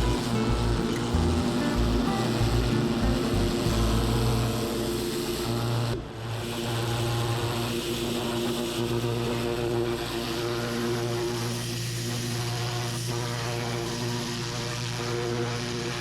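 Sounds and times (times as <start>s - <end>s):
pressure washer engine drone: 0.0s - 13.0s.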